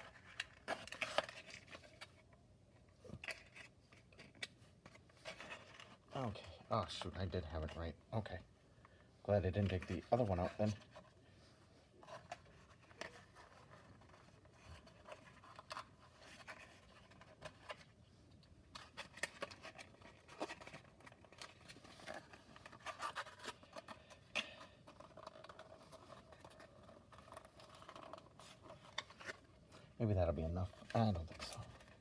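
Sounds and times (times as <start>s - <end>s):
clicks and scrapes of plastic parts: 0.0s - 11.2s, 12.0s - 30.0s, 30.6s - 32.0s.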